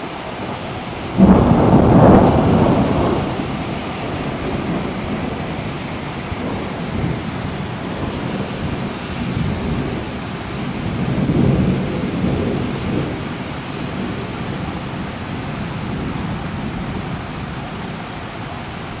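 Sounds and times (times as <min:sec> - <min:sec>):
rolling thunder: 0:00.0 - 0:18.0
steady rain: 0:00.0 - 0:19.0.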